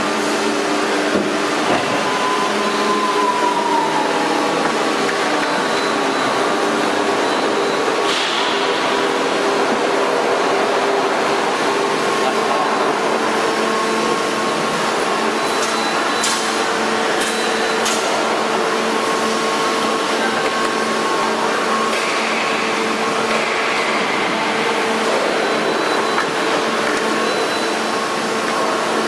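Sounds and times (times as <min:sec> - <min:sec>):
machine drone with hum: 0:00.0 - 0:29.0.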